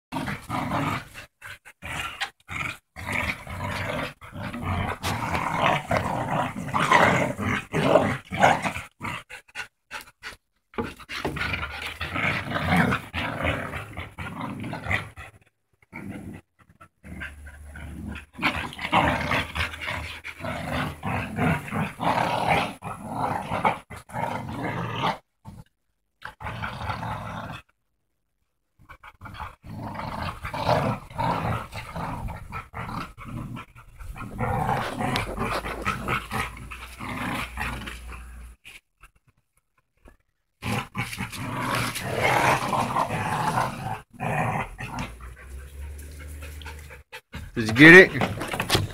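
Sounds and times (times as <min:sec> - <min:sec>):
dogs growling: 0:00.1 - 0:27.7, 0:28.8 - 0:48.9.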